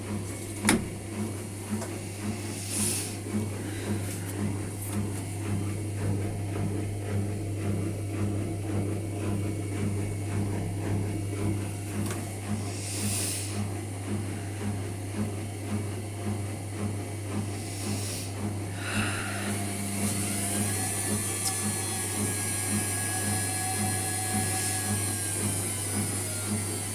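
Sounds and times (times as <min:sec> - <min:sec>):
washing machine humming: 0:00.0 - 0:26.9.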